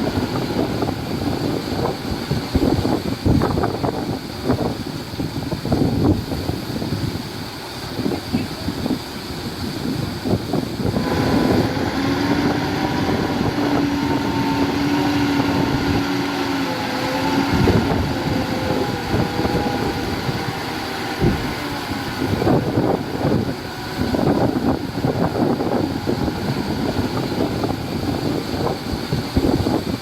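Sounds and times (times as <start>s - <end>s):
diesel machinery engine drone: 0.0s - 30.0s
wind noise on microphone: 0.0s - 30.0s.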